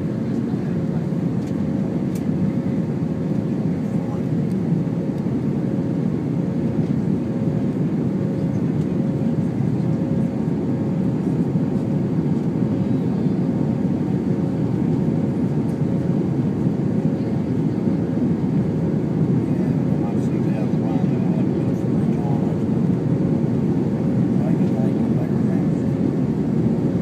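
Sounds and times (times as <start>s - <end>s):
jet engine rumble and rushing air: 0.0s - 27.0s.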